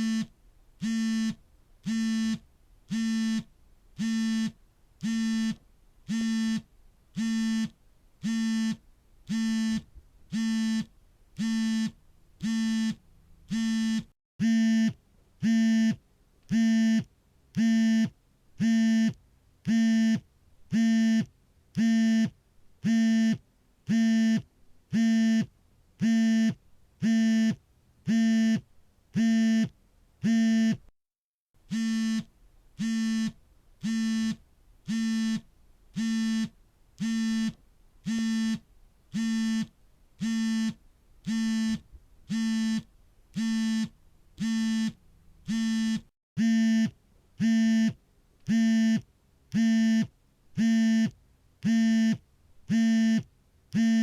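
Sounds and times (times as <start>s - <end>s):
smartphone vibrating buzzes: 0.0s - 30.8s, 31.7s - 54.0s.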